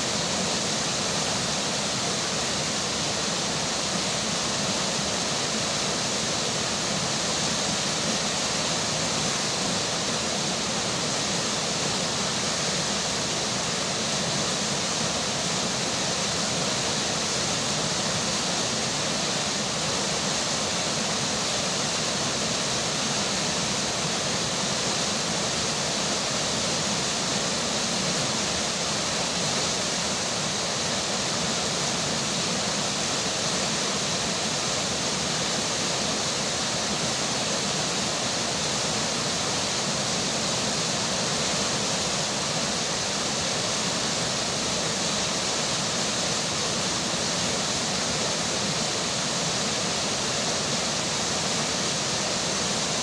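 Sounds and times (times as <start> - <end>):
rainfall: 0.0 - 53.0
river water flowing: 0.0 - 53.0.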